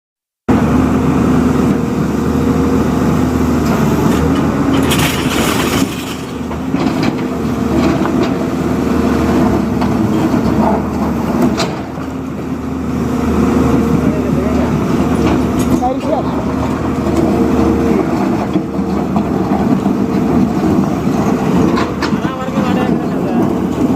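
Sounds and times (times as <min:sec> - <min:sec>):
backhoe diesel engine running: 0:00.5 - 0:23.9.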